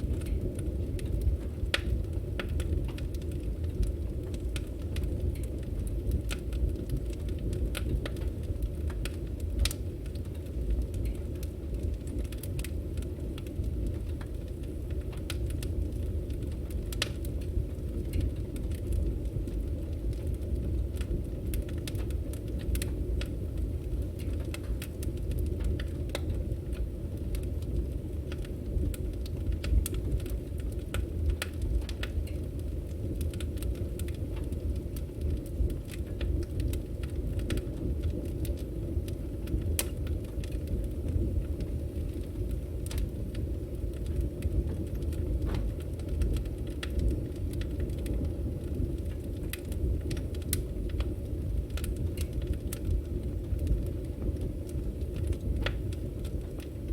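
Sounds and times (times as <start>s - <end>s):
firewood crackling and popping: 0.0s - 56.9s
low rumble of fire: 0.0s - 56.9s.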